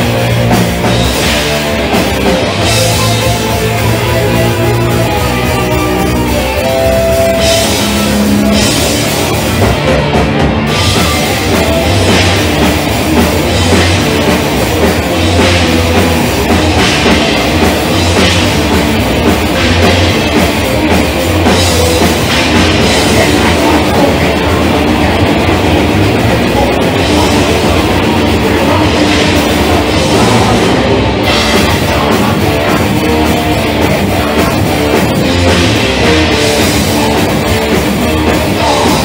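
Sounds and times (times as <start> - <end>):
distorted guitars and bass: 0.0 - 39.0
fast drumming: 0.0 - 39.0.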